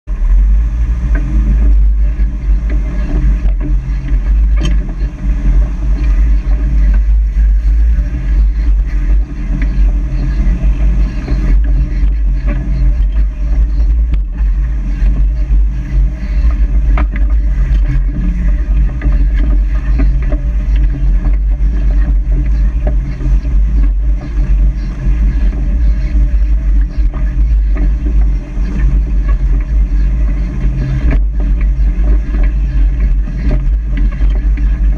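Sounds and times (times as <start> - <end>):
off-road vehicle engine rumbling: 0.0 - 34.9.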